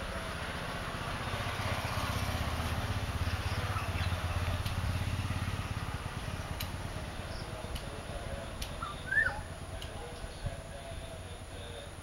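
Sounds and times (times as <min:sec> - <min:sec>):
engine pulsing hum: 0:00.0 - 0:12.0.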